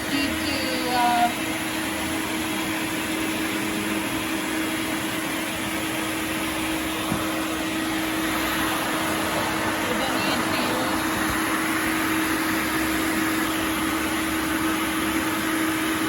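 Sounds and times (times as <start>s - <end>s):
vacuum cleaner motor whir: 0.0s - 16.0s.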